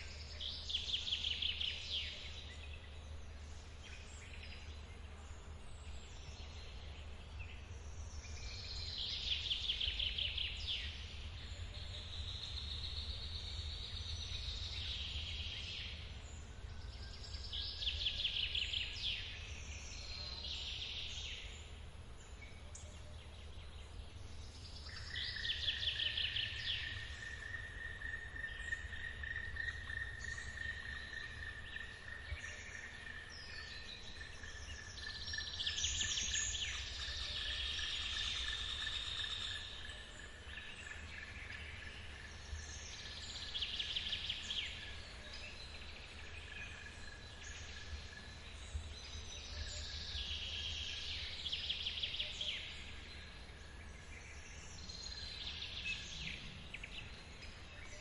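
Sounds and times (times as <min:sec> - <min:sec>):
forest birds trilling: 0:00.0 - 0:58.0.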